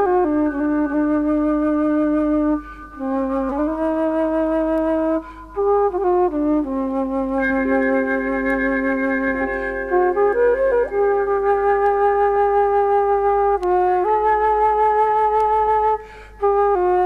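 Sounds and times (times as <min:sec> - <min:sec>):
music of long held notes: 0:00.0 - 0:17.0.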